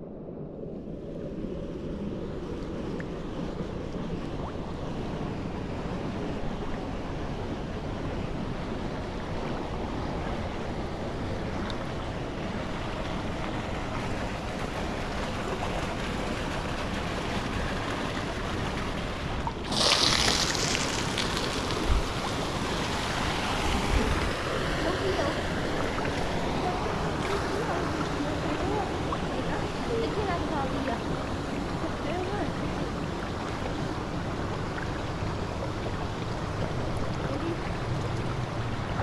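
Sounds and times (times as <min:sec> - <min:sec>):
pool water rushing and lapping: 0:00.0 - 0:39.0.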